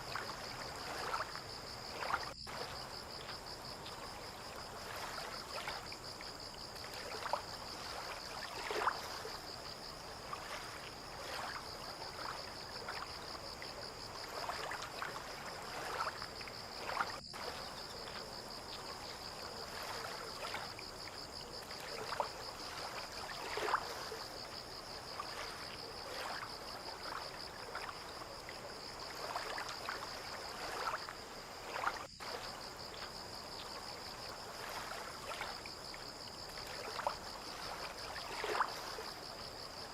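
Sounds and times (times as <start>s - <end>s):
water lapping against boats: 0.0s - 39.9s.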